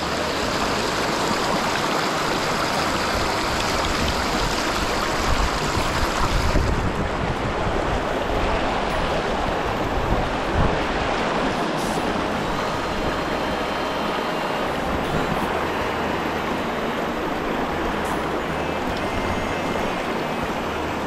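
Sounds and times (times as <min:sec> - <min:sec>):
river rushing over gravel: 0:00.0 - 0:21.0.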